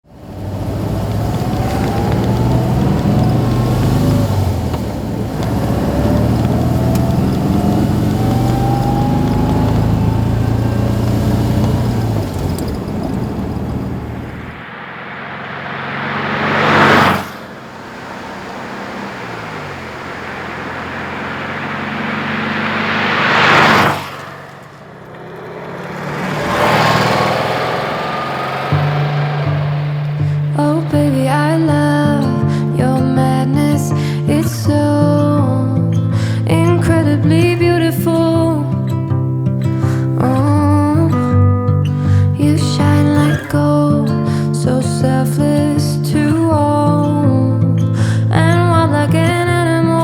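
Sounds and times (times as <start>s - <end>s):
flat-four engine running: 0.0s - 50.0s
loud engine rush: 0.0s - 50.0s.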